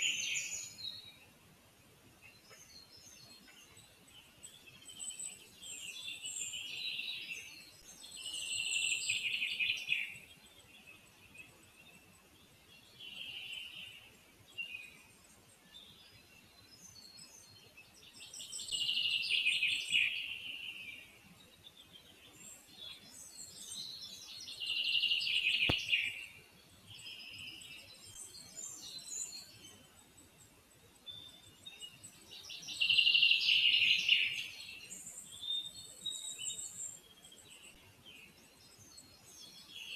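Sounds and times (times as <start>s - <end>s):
faint high bird chirps: 0.0s - 1.4s, 2.2s - 39.9s
songbird singing: 0.0s - 39.9s.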